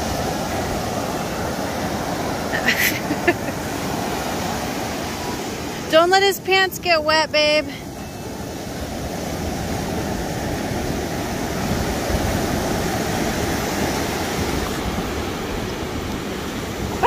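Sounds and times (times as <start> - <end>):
ocean surf washing on sand: 0.0 - 17.0.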